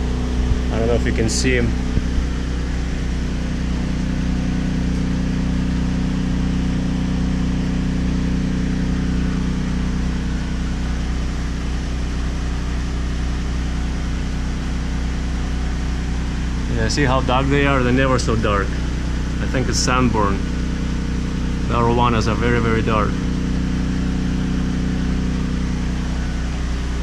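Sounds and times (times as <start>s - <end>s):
generator engine drone: 0.0s - 27.0s.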